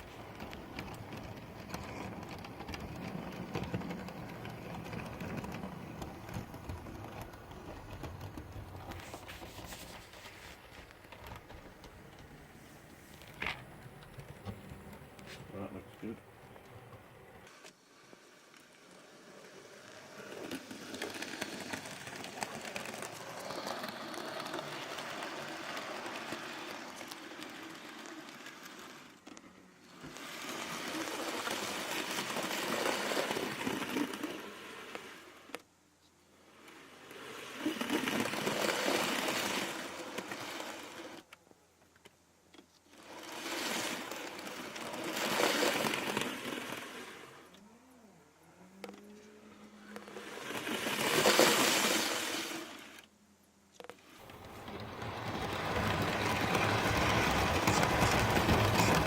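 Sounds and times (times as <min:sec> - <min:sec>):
model wheels rattling on rails: 0:00.0 - 0:17.5, 0:18.6 - 0:35.4, 0:36.5 - 0:41.2, 0:42.9 - 0:47.4, 0:49.8 - 0:52.6, 0:54.1 - 0:59.0.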